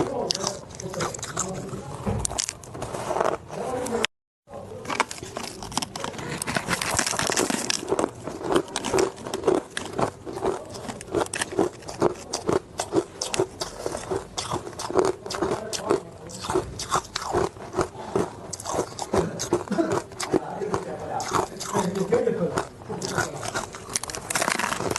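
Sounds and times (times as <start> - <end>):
ice being chewed: 0.0 - 4.0, 4.8 - 24.9.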